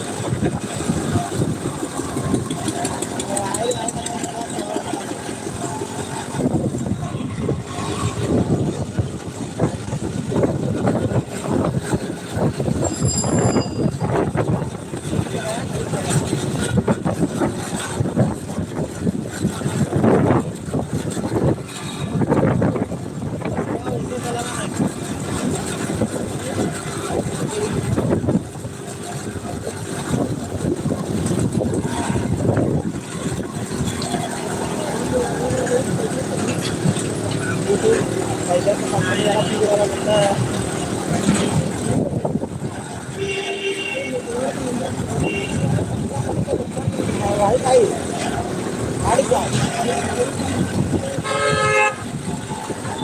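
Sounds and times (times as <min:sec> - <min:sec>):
vehicle engine running: 0:00.0 - 0:43.0
road noise: 0:00.0 - 0:53.0
voices: 0:00.0 - 0:53.0.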